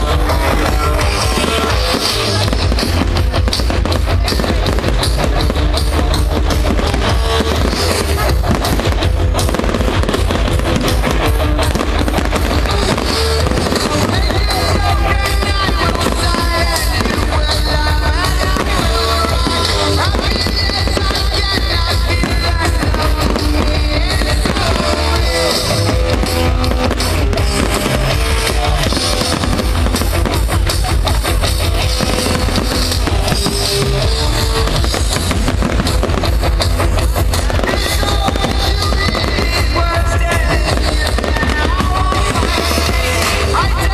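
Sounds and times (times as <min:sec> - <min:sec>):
fireworks bangs and crackles: 0:00.0 - 0:43.9
rock music: 0:00.0 - 0:43.9.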